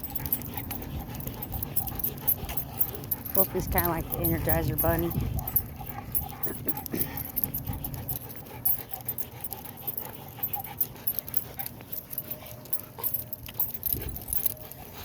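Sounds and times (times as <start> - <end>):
dogs panting: 0.0 - 15.0.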